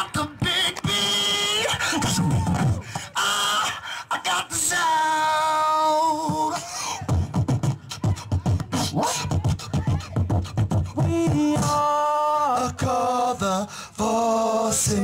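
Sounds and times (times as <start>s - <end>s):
person beatboxing: 0.0s - 15.0s.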